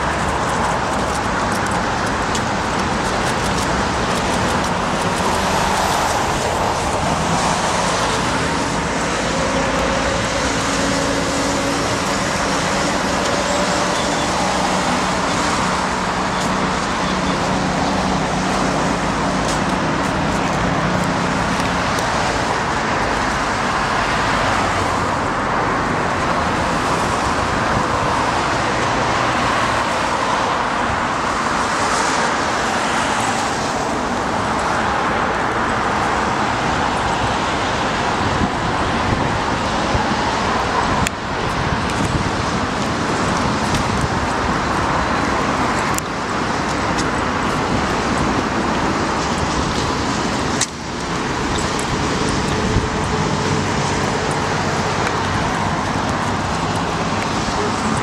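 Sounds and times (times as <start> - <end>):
road traffic roar: 0.0 - 58.0.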